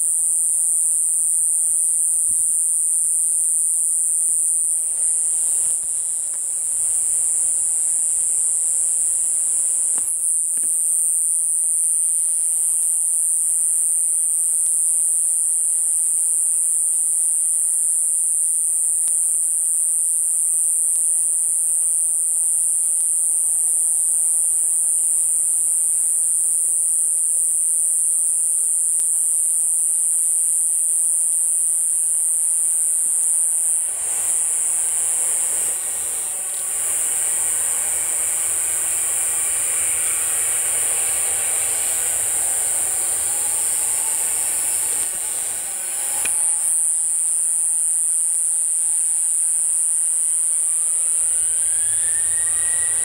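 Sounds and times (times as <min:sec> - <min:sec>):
night insects trilling: 0:00.0 - 0:53.0.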